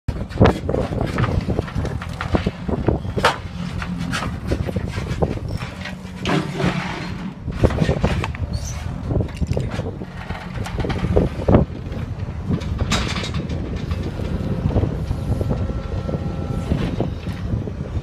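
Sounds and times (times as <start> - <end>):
knocks and crackles: 0.1 - 15.7
diesel engine running under load: 0.1 - 18.0.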